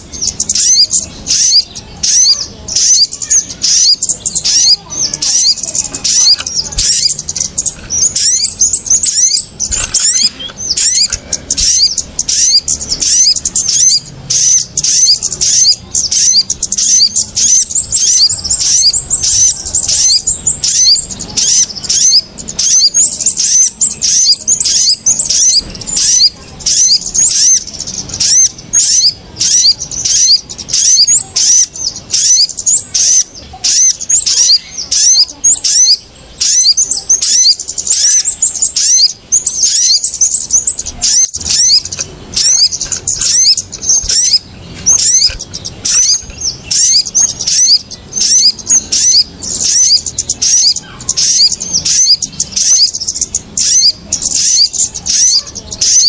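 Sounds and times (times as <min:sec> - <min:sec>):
small birds chirping agitatedly: 0:00.0 - 0:56.0.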